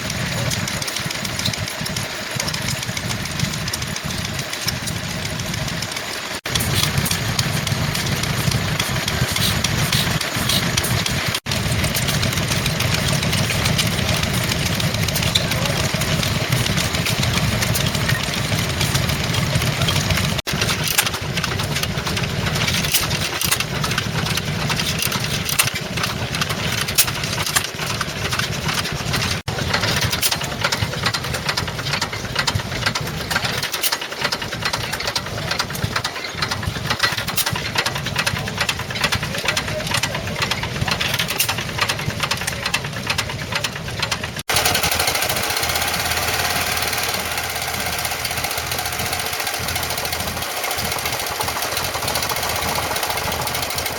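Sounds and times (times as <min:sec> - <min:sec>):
rapid mechanical ticking and clatter: 0:00.0 - 0:53.9
stationary engines chugging: 0:00.0 - 0:53.9.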